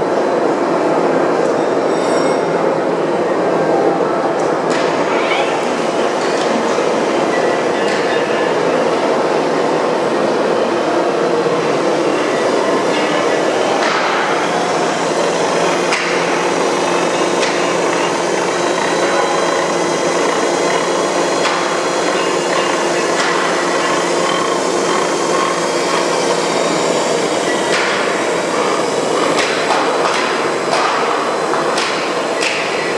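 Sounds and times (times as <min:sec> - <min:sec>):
milling machine running: 0:05.6 - 0:32.9.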